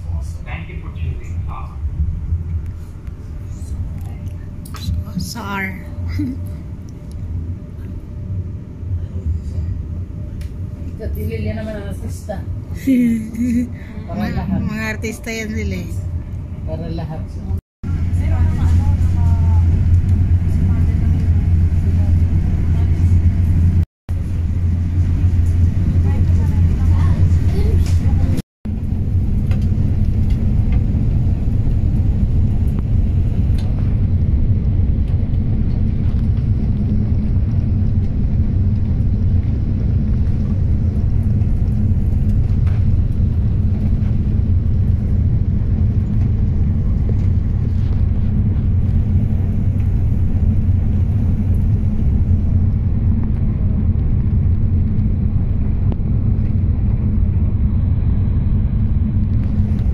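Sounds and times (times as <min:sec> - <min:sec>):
train rumbling inside carriage: 0:00.0 - 0:59.9.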